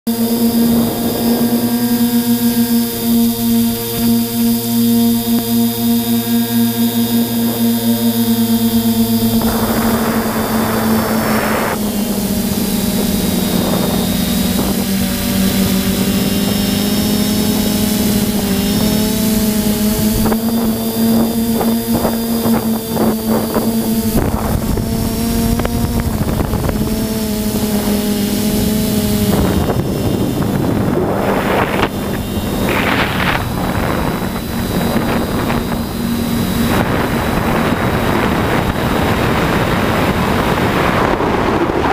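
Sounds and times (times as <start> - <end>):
drone propellers buzzing: 0.1 - 41.9
wind noise on microphone: 0.1 - 41.9.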